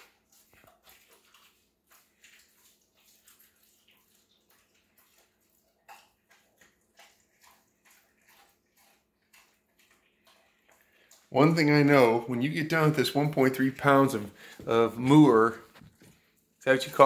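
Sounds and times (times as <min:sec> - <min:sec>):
dog chewing and licking: 0:00.0 - 0:17.0.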